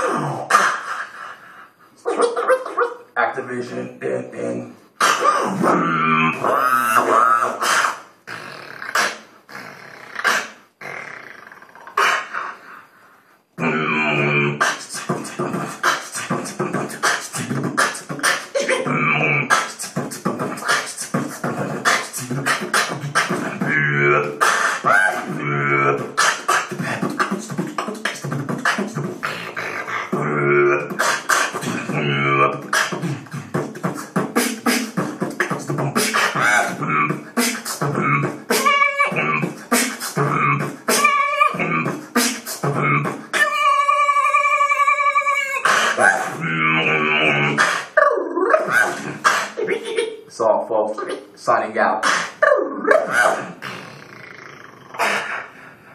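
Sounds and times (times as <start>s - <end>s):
beatboxing: 0.0s - 12.8s, 13.6s - 55.9s.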